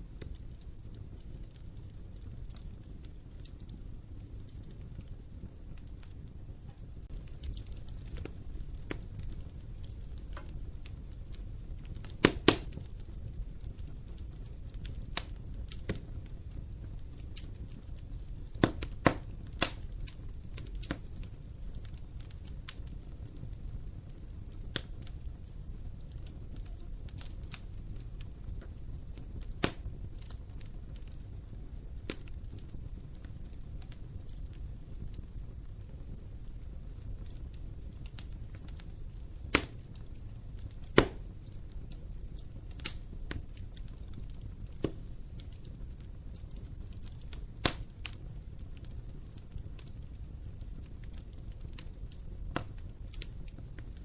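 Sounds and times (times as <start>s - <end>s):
sharp pops from fire: 0.0s - 54.0s
wood fire crackling: 0.0s - 54.0s.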